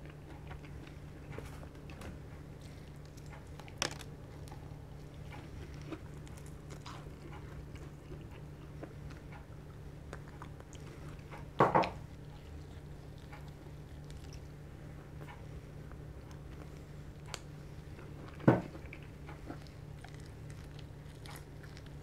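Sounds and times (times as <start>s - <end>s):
crunchy chewing of fried chicken: 0.0s - 22.0s.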